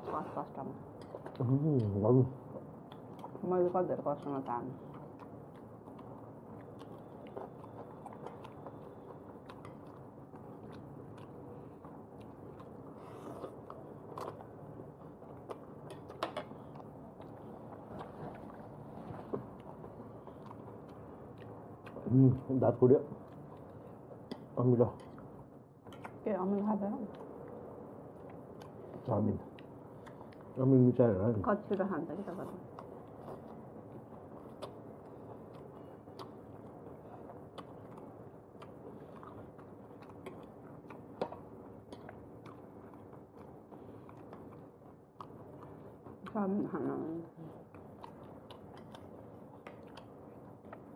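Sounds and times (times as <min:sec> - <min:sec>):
person chewing food: 0:00.8 - 0:03.5, 0:04.2 - 0:26.2, 0:27.1 - 0:31.1, 0:32.4 - 0:46.5, 0:47.4 - 0:50.9.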